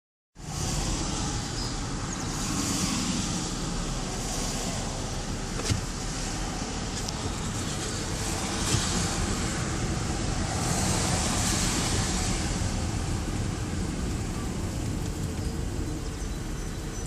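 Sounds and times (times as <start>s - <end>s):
low road rumble: 0.4s - 17.0s.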